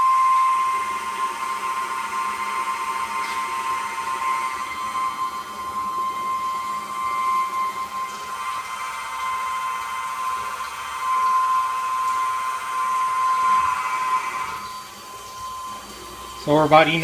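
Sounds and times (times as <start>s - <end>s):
electric fuel pump whining: 0.0s - 17.0s.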